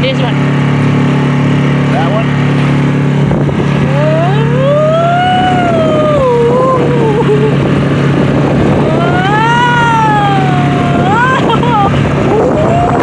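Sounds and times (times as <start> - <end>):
outboard motor running: 0.0 - 13.0
rushing water: 0.0 - 13.0
rushing wind: 0.0 - 13.0.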